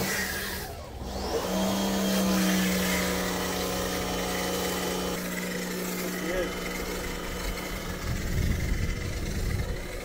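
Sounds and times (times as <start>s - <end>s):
pressure washer motor humming: 0.0s - 10.0s.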